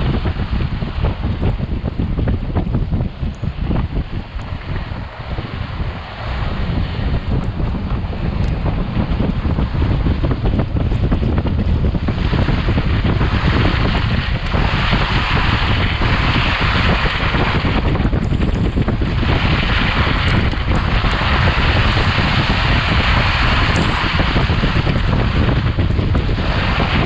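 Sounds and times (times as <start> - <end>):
tyres rumbling on snow: 0.0 - 27.0
wind buffeting microphone: 0.0 - 27.0.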